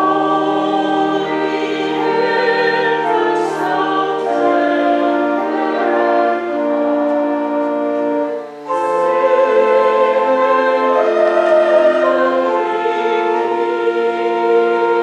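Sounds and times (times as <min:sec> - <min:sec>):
church organ: 0:00.0 - 0:15.0
people singing a hymn: 0:00.0 - 0:15.0.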